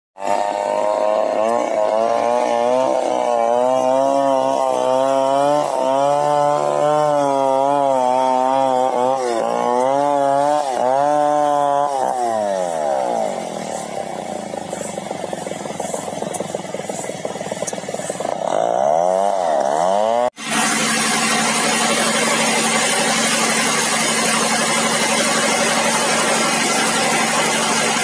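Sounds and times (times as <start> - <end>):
chainsaw running at high revs: 0.2 - 28.0.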